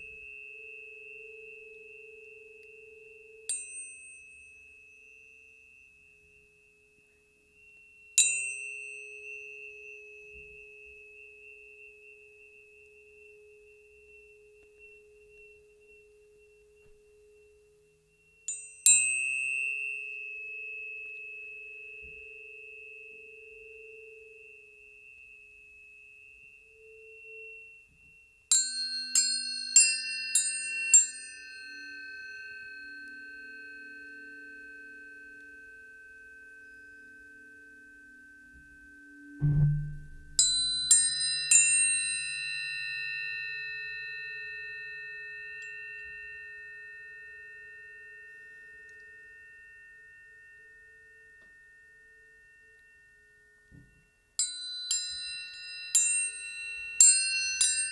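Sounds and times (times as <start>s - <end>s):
tuning forks ringing: 0.0s - 57.9s.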